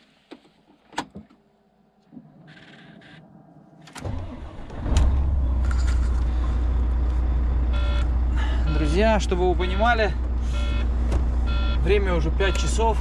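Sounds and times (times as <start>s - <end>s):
diesel truck engine starting and idling: 2.2s - 13.0s.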